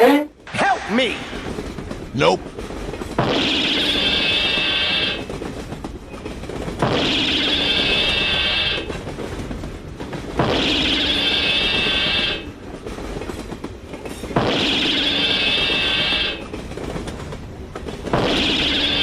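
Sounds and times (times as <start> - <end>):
train running on rails: 0.0 - 19.0.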